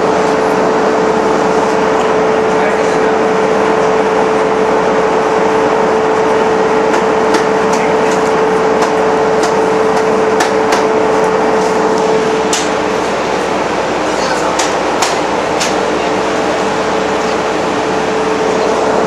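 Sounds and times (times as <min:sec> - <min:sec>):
boat engine droning: 0:00.0 - 0:19.0
engine whine: 0:00.0 - 0:19.0.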